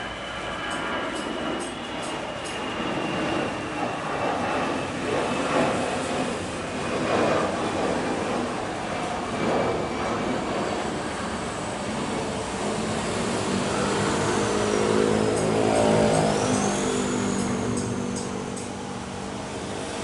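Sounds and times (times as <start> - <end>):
high engine whine: 0.0 - 20.0
jet engines roaring: 0.0 - 20.0.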